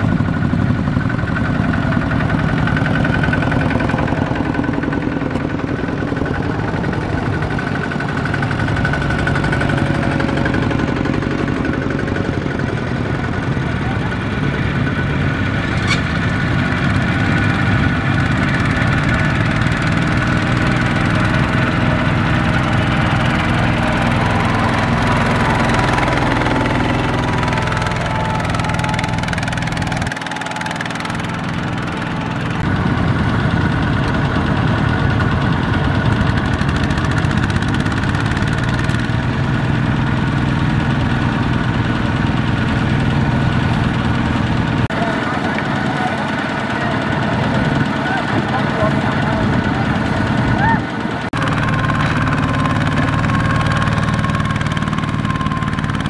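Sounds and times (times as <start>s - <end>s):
walking tractor diesel engines: 0.0s - 56.0s.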